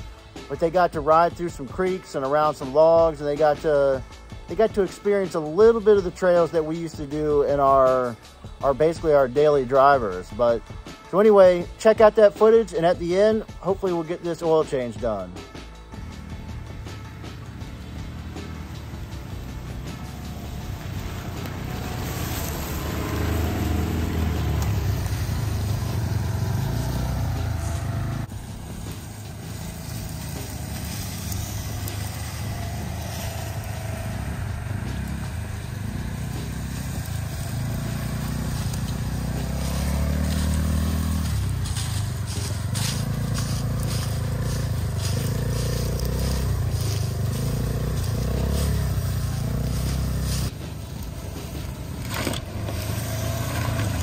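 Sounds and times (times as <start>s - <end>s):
off-road vehicle engines: 0.0s - 54.0s.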